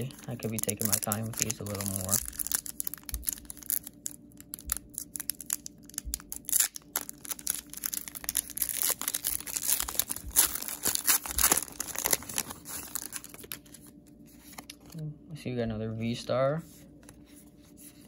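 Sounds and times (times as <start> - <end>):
foil wrapper crinkling and tearing: 0.0 - 14.8.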